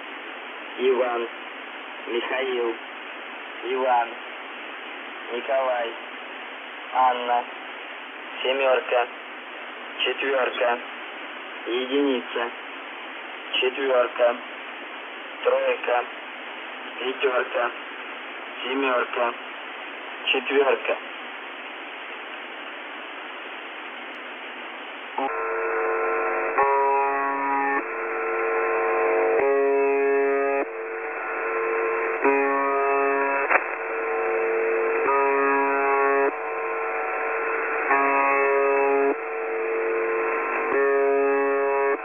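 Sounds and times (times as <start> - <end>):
radio static hiss: 0.0 - 42.0.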